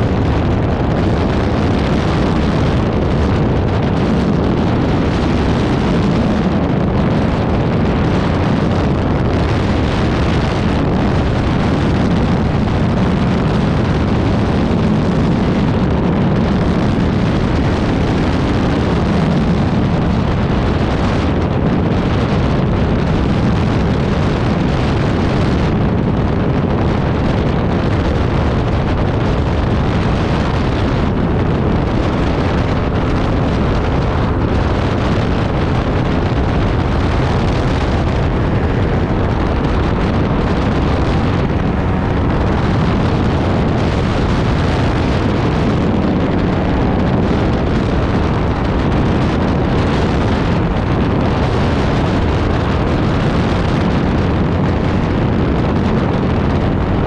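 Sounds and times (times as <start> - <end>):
aircraft engine running: 0.0 - 57.0
wind rushing over microphone: 0.0 - 57.0.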